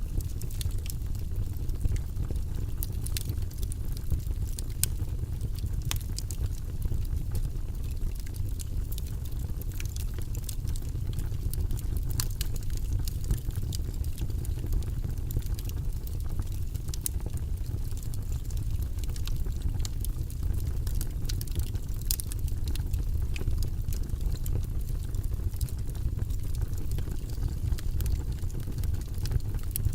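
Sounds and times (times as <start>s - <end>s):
fire crackles and pops: 0.0s - 29.9s
low rumble of flames: 0.0s - 29.9s.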